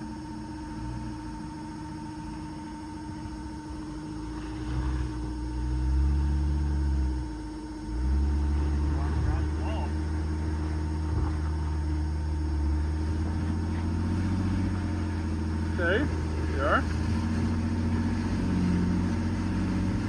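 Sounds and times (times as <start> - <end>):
electrical hum: 0.0 - 20.0
vehicle engine revving: 0.0 - 20.0.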